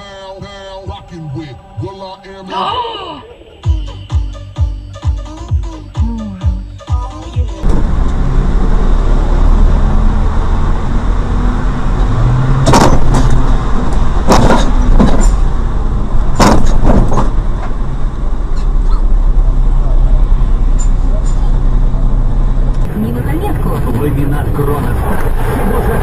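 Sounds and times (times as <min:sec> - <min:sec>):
vehicle engine rumbling: 0:00.0 - 0:04.6, 0:06.0 - 0:26.0.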